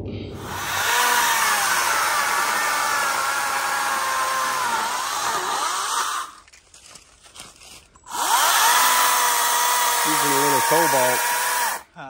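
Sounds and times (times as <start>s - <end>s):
electric chainsaw whining: 0.4s - 6.4s, 8.1s - 11.8s.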